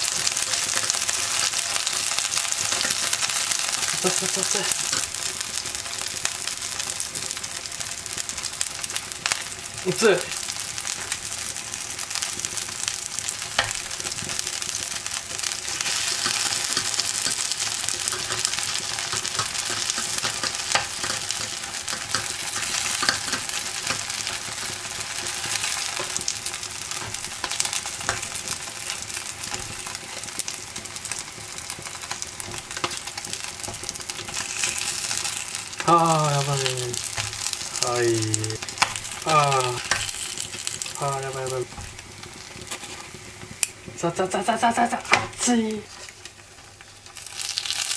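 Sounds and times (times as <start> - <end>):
food sizzling in oil: 0.0 - 47.9.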